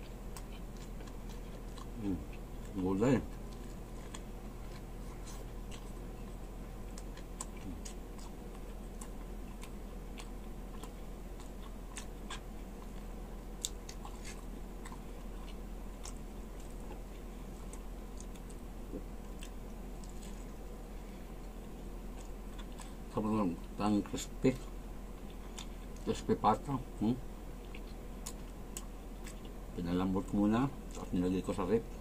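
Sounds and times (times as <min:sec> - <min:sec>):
person chewing: 0:00.0 - 0:23.8, 0:24.5 - 0:26.2, 0:27.6 - 0:29.7, 0:30.8 - 0:31.2
steady low hum: 0:00.0 - 0:32.0.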